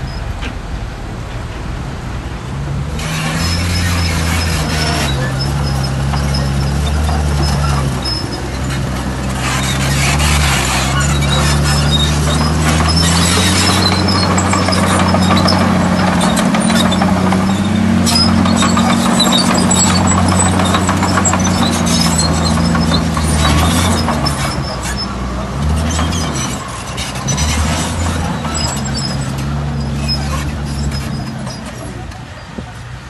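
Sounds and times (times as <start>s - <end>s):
bulldozer diesel engine working: 0.0s - 33.0s
metallic clanks and rattles: 3.0s - 32.8s.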